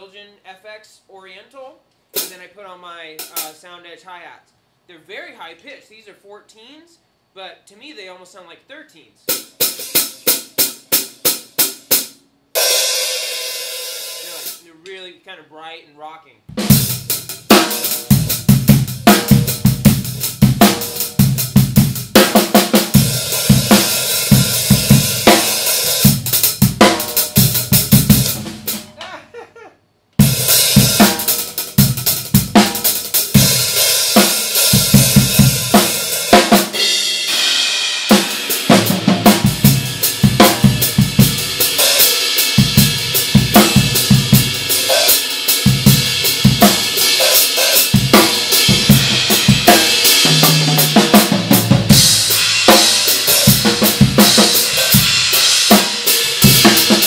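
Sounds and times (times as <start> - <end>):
drum kit groove: 2.1 - 3.7, 9.3 - 15.1, 16.5 - 29.4, 30.2 - 57.0
bright hi-hats: 2.1 - 4.1, 9.3 - 14.8, 16.6 - 28.9, 30.2 - 57.0.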